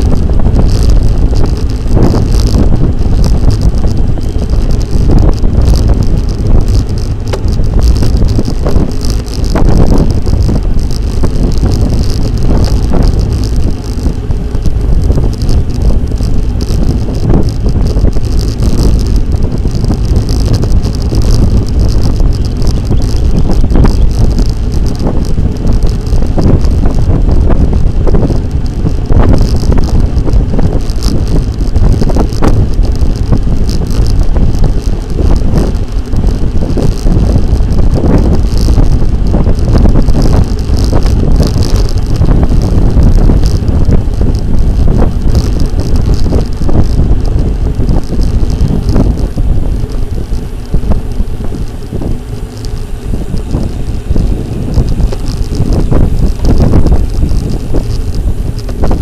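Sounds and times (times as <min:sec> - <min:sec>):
road and tyre noise: 0:00.0 - 0:59.0
small clicks and rattles: 0:00.0 - 0:59.0
wind buffeting microphone: 0:00.0 - 0:59.0.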